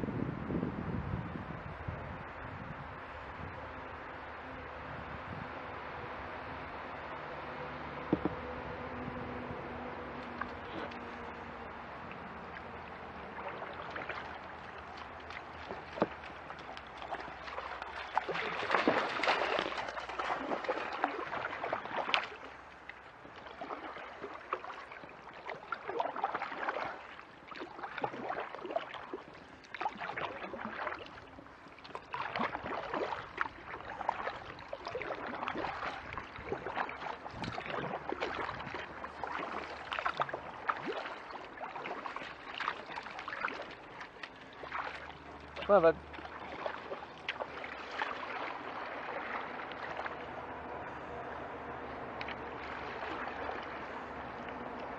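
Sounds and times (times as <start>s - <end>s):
water moving along hull: 0.0s - 54.9s
kayak paddle strokes in water: 2.2s - 54.9s.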